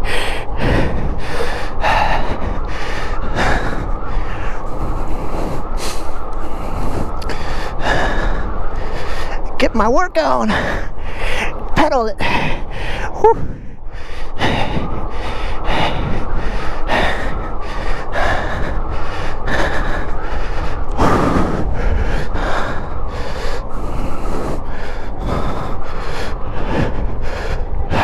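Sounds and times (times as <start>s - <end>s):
person breathing hard: 0.0s - 9.6s, 10.5s - 28.0s
wind rumble on microphone: 0.0s - 28.0s.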